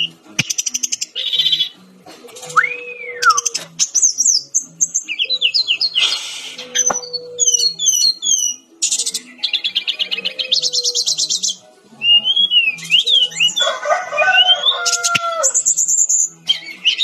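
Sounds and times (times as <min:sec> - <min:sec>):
bird singing: 0:00.0 - 0:01.9, 0:02.5 - 0:17.0.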